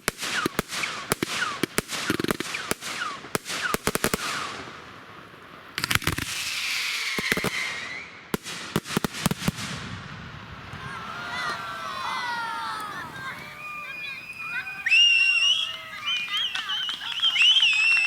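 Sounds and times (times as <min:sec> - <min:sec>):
fireworks banging: 0:00.0 - 0:18.0
fireworks crackling hiss: 0:00.0 - 0:18.0
whistling fireworks: 0:00.0 - 0:18.0.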